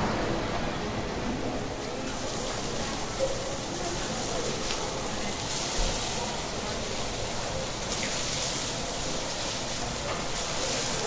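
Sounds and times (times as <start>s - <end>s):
cabbage sizzling on a hot griddle: 2.0s - 11.0s.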